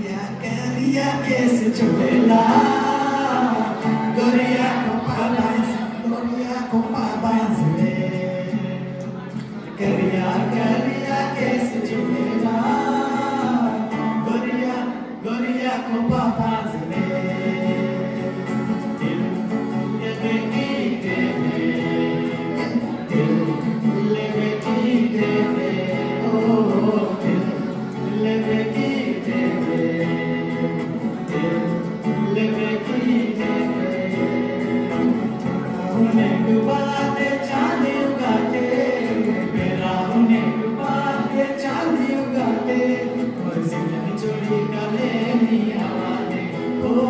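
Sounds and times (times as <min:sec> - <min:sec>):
acoustic guitars: 0:00.0 - 0:47.0
group singing: 0:00.0 - 0:47.0.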